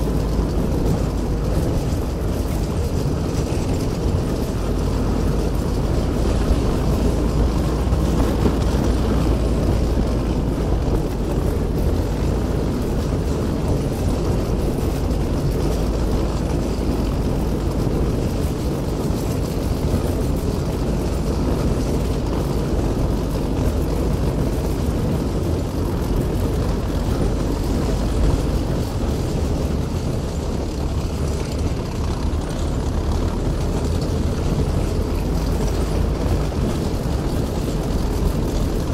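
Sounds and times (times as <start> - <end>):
half-track engine running: 0.0 - 38.9
tracks running on dirt: 0.0 - 38.9.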